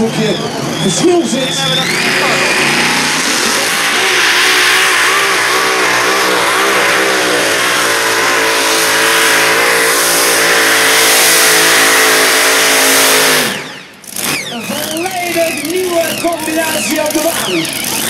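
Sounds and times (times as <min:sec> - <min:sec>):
tractor engine at full throttle: 0:00.0 - 0:18.0.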